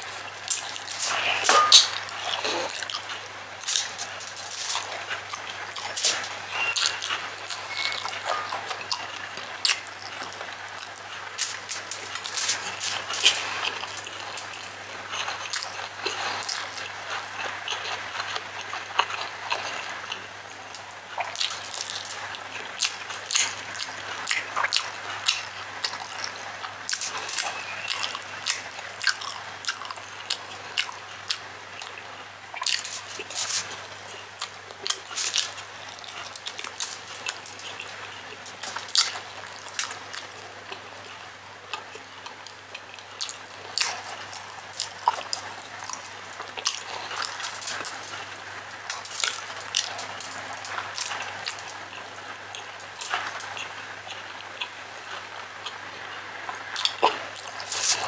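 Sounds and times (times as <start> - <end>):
wet chewing and lip-smacking: 0.0 - 55.8, 56.5 - 58.0.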